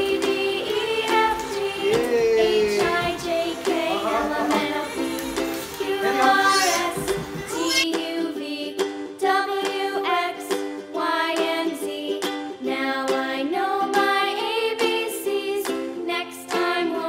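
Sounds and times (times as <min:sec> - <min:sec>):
song with singing: 0:00.0 - 0:17.0.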